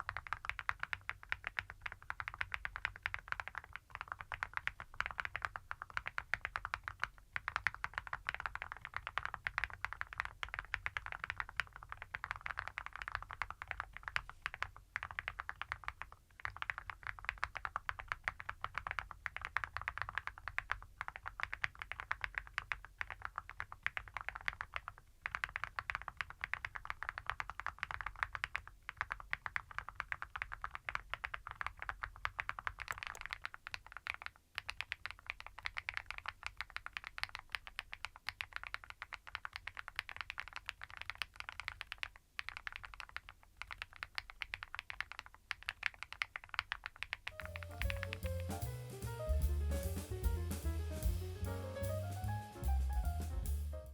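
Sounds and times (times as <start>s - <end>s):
mechanical keyboard typing: 0.0s - 53.4s.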